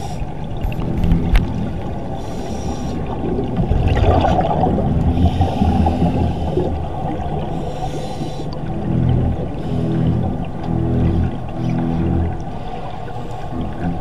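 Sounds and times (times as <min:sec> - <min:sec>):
underwater bubbles gurgling: 0:00.0 - 0:14.0.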